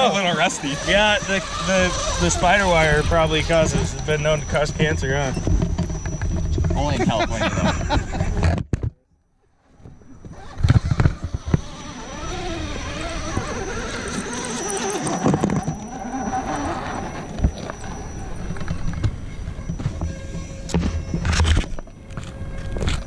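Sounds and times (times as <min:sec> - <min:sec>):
toy car motor whining: 0:00.0 - 0:08.6, 0:09.8 - 0:23.0.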